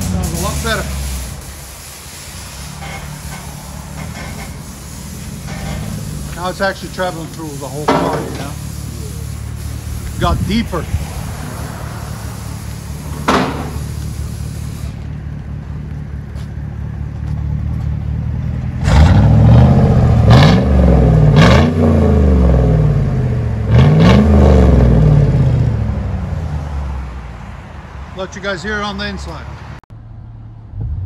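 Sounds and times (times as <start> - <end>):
engine idling and revving: 0.0 - 1.5, 2.4 - 27.6.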